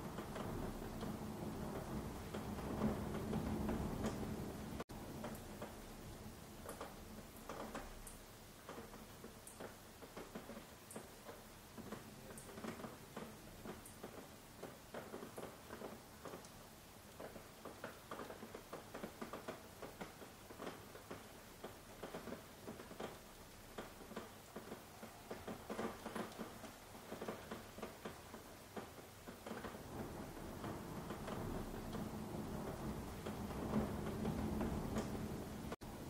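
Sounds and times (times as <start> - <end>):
raindrops tapping: 0.0 - 36.0.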